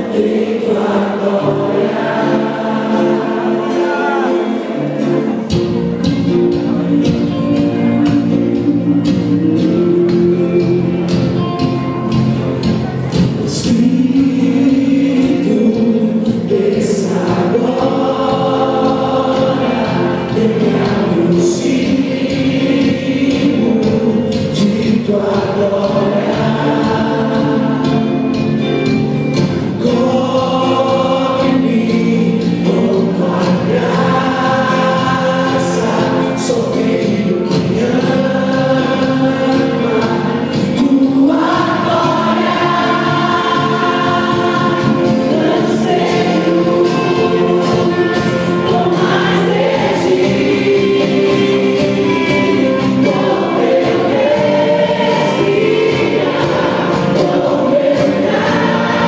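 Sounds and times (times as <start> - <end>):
sustained accompaniment: 0.0 - 59.0
voices singing worship song: 0.0 - 59.0.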